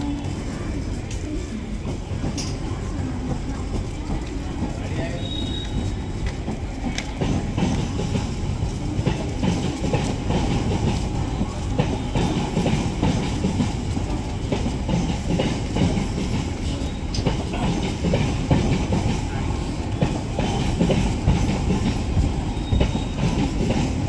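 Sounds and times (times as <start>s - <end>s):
train rumbling on tracks: 0.0s - 24.0s
wheels clicking on rails: 0.0s - 24.0s.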